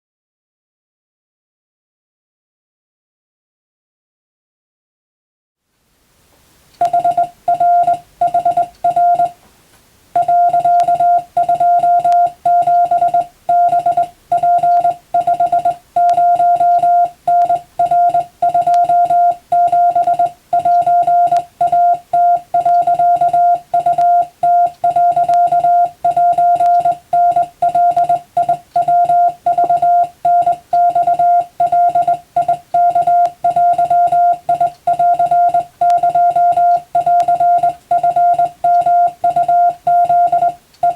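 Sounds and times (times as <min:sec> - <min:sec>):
morse code beeping: 0:06.8 - 0:09.4, 0:10.2 - 0:40.9.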